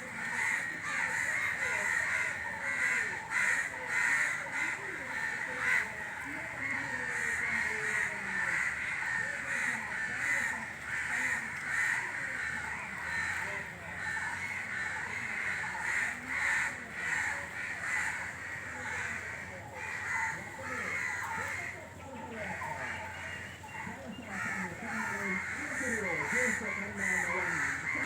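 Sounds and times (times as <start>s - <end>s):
crows cawing: 0.0s - 28.0s.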